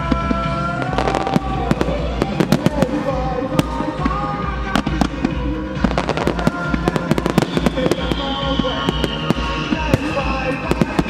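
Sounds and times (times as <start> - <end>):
firework shells bursting and crackling: 0.0 - 11.0
music through loudspeakers: 0.0 - 11.0.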